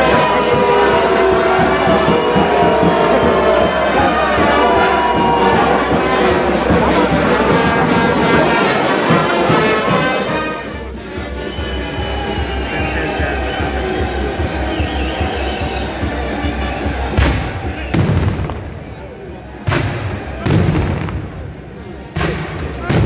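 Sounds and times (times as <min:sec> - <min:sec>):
brass band music: 0:00.0 - 0:23.0.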